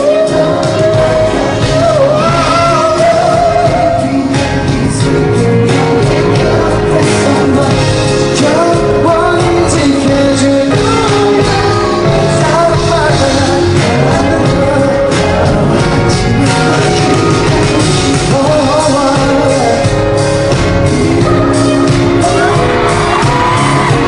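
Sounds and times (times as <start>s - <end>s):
drums: 0.0s - 24.0s
live pop music: 0.0s - 24.0s
man singing: 0.0s - 24.0s.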